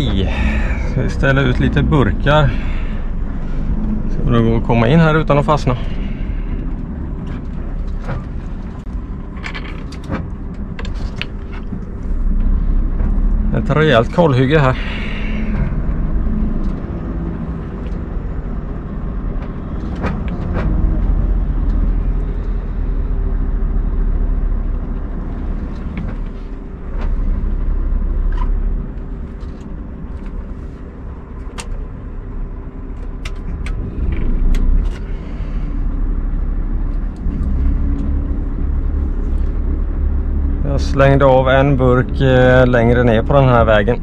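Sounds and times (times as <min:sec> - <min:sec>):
truck diesel engine running: 0:00.0 - 0:44.0.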